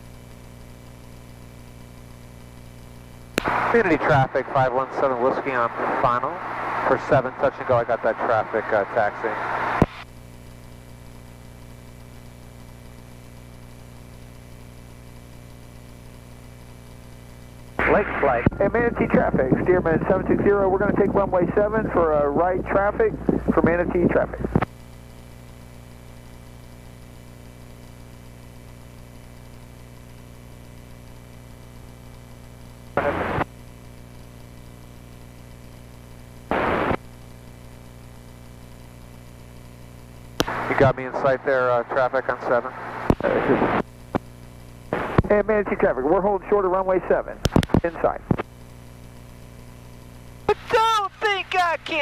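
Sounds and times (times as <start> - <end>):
radio intercom low hum: 0.0 - 52.0.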